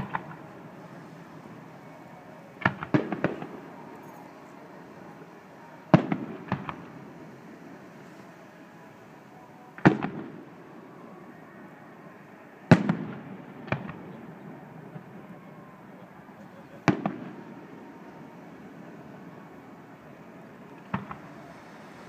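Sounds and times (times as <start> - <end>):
fireworks booming: 0.0 - 8.0, 9.8 - 10.7, 12.6 - 22.0.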